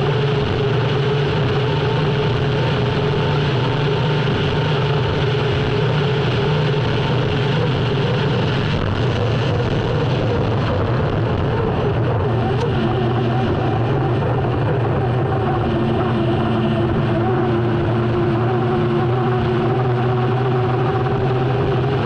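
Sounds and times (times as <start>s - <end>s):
boat turbine engine running: 0.0s - 22.0s.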